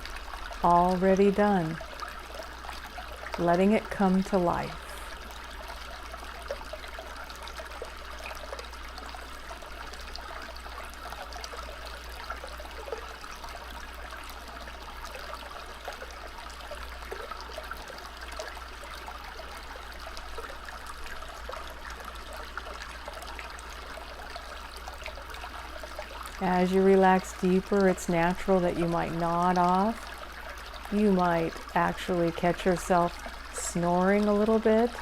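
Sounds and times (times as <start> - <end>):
stream babbling: 0.0 - 35.0.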